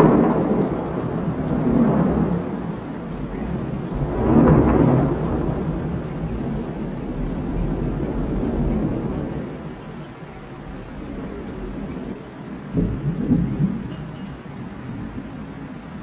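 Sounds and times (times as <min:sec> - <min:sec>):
rain hissing: 0:00.0 - 0:16.0
thunder rumbling: 0:00.0 - 0:16.0.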